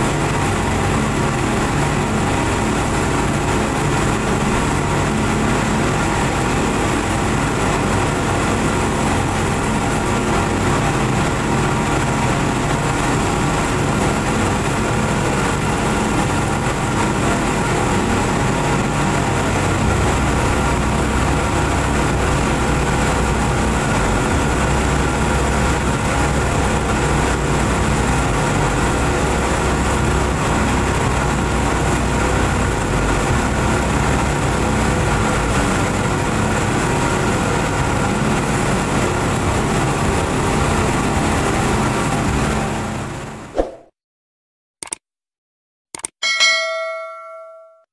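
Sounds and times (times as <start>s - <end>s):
outboard motors droning: 0.0s - 43.2s
rush of boat wake: 0.0s - 43.7s.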